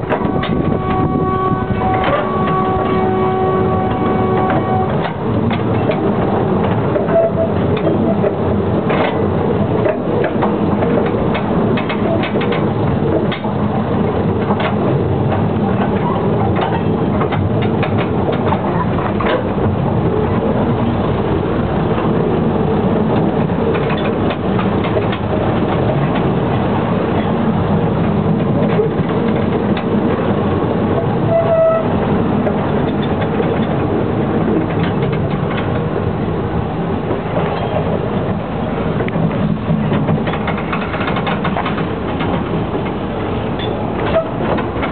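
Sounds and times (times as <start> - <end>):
train rumbling on track: 0.0 - 44.9
wheels clicking on rails: 0.0 - 44.9.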